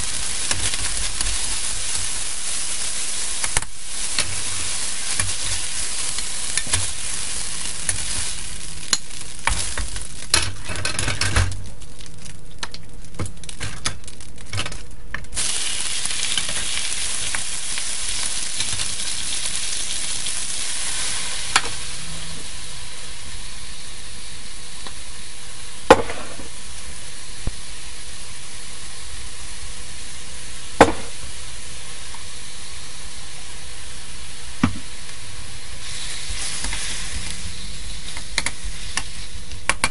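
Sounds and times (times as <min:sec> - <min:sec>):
hot oil sizzling in a wok: 0:00.0 - 0:39.9.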